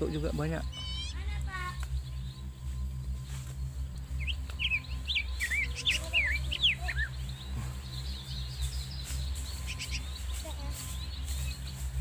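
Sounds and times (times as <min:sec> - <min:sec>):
bird chirping: 0:00.0 - 0:12.0
low microphone rumble: 0:00.0 - 0:12.0.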